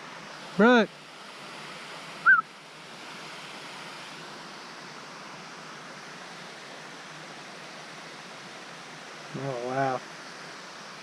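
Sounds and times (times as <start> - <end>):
water rushing down a creek: 0.0 - 11.0.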